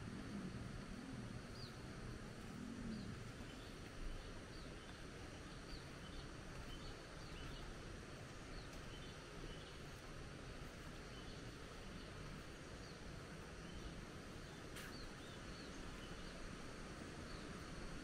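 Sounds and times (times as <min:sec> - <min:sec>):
low wavering hum: 0:00.0 - 0:18.0
steady hiss: 0:00.0 - 0:18.0
small birds chirping: 0:01.4 - 0:17.8.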